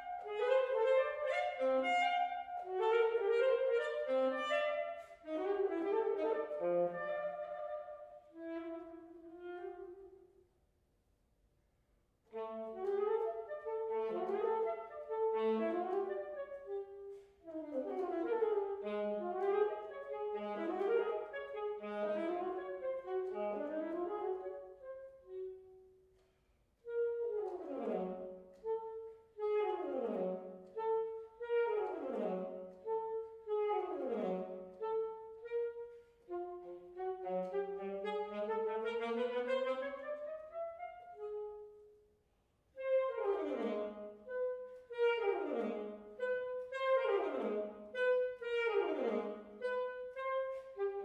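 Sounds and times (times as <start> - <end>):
solo saxophone: 0.0 - 10.5, 12.2 - 51.0.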